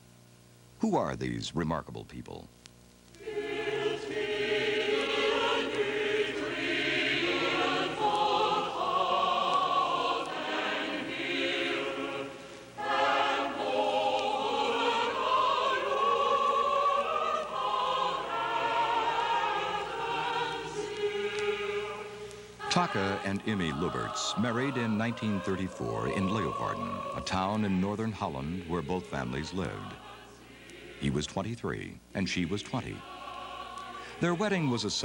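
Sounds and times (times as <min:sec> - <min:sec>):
choir singing held notes: 0:03.2 - 0:35.0.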